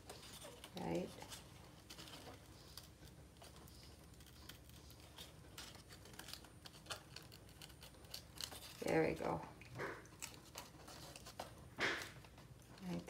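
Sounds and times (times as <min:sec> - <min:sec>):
paper being folded: 0:00.0 - 0:13.0.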